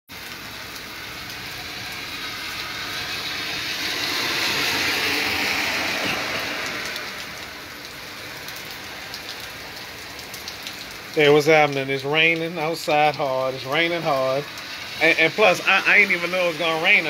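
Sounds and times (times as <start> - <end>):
heavy rain falling: 0.1 - 17.0
car tyres hissing on wet road: 0.2 - 17.0.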